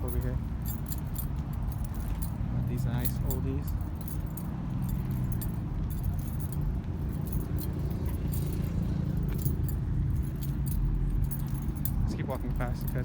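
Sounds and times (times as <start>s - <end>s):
keys jingling: 0.0s - 13.0s
truck engines idling: 0.0s - 13.0s.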